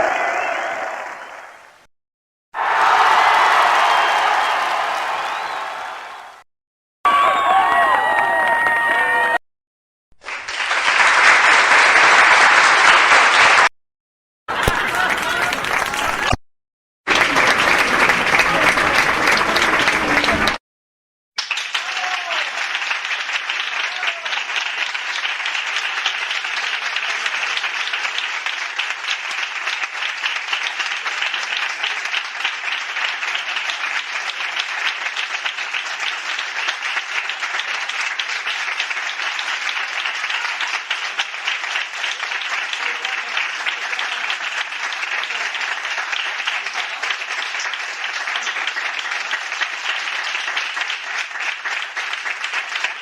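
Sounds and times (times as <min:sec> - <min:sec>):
many people clapping: 0:00.0 - 0:01.8, 0:02.6 - 0:06.4, 0:07.1 - 0:09.4, 0:10.2 - 0:13.7, 0:14.5 - 0:16.4, 0:17.1 - 0:20.6, 0:21.4 - 0:53.0
crowd applauding: 0:02.6 - 0:06.4, 0:07.1 - 0:09.4, 0:10.2 - 0:13.7, 0:14.5 - 0:16.4, 0:17.1 - 0:20.6, 0:21.4 - 0:53.0.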